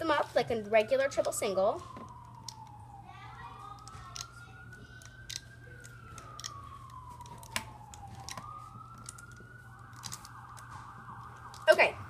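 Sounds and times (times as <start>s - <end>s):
faint emergency siren wailing: 0.0s - 12.0s.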